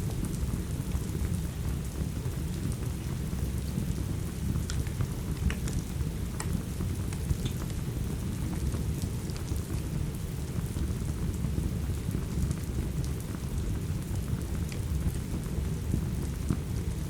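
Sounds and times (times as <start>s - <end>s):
steady rain: 0.0s - 17.0s
wood fire crackling: 0.2s - 17.0s.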